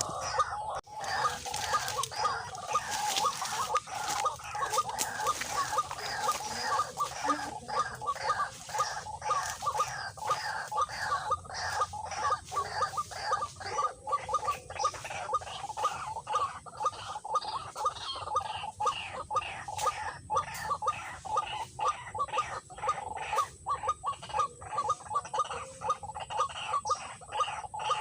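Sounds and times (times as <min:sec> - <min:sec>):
waterhen harsh calls: 0:00.0 - 0:28.0.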